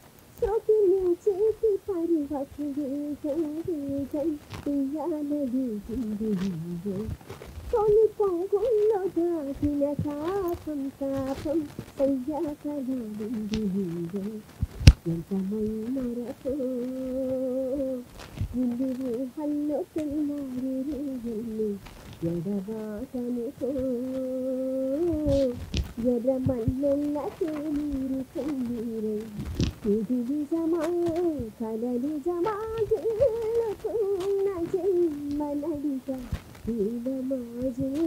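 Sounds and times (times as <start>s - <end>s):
woman singing solo: 0.4s - 7.2s, 7.8s - 38.0s
woman vocalising wordless melody: 0.4s - 38.0s.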